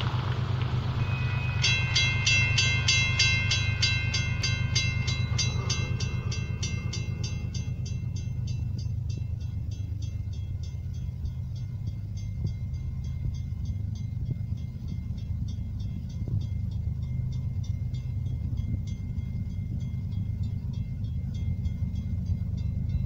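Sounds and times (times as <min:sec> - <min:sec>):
low steady rumble: 0:00.0 - 0:23.0
railroad crossing bell ringing: 0:00.1 - 0:23.0.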